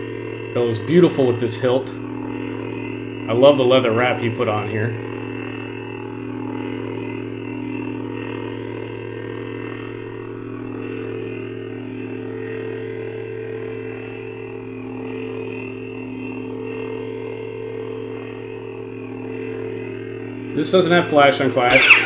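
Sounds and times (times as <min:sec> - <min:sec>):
lightsaber electronic hum: 0:00.0 - 0:22.0.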